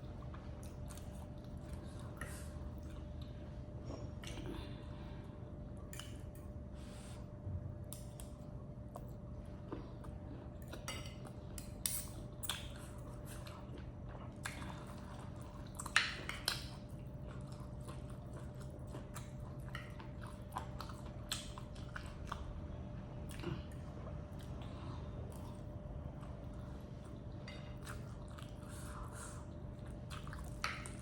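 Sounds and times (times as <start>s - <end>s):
faint steady hum: 0.0s - 31.0s
person chewing: 0.1s - 4.8s, 8.0s - 22.5s, 23.2s - 31.0s.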